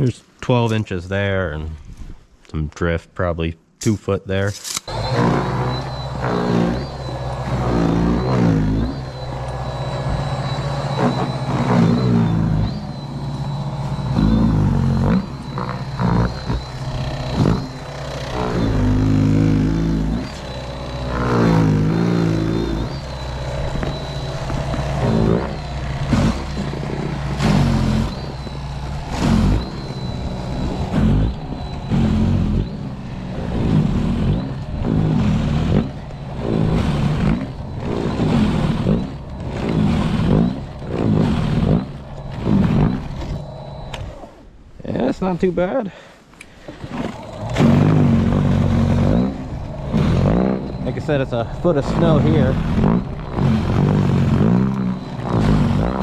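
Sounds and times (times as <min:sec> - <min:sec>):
electric snow shovel motor whine: 0:04.8 - 0:44.5, 0:46.6 - 0:56.0.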